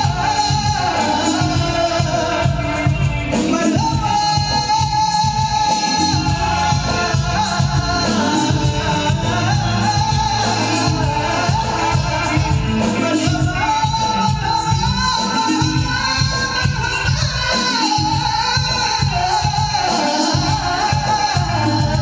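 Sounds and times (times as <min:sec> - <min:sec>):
keyboard: 0:00.0 - 0:22.0
man singing into a microphone: 0:00.0 - 0:22.0
steady beat: 0:00.0 - 0:22.0.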